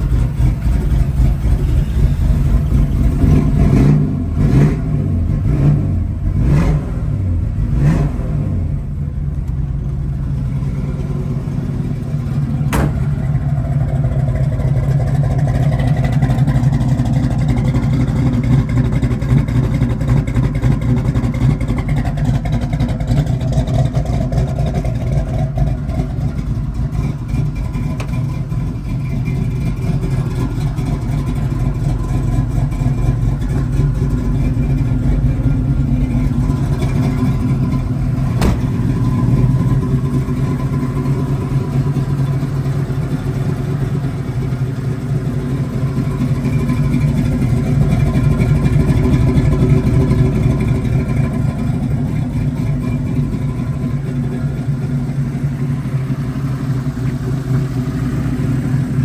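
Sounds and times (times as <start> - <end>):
car engine revving and idling: 0.0 - 59.0.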